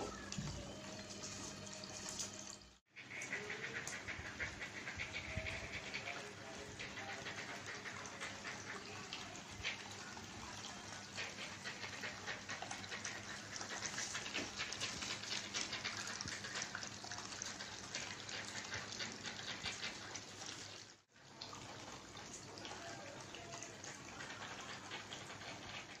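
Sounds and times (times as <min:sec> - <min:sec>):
fountain water trickling and splashing: 0:00.1 - 0:26.0.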